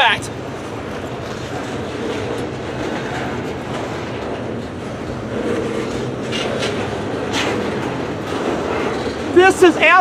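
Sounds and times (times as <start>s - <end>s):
freight cars rolling on rails: 0.0s - 10.0s.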